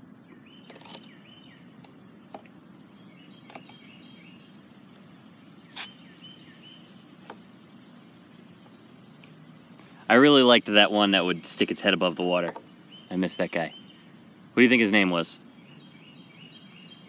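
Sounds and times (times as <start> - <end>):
bird chirping: 0.2 - 17.0.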